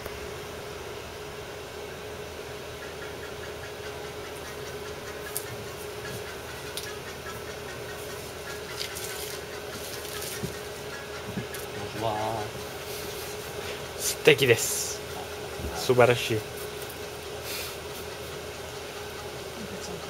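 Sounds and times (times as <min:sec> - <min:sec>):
room hum with hiss: 0:00.0 - 0:20.0.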